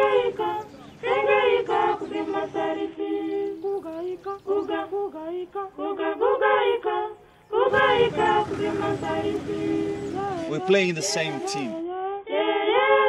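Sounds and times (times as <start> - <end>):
high voices singing unaccompanied: 0.0 - 13.0.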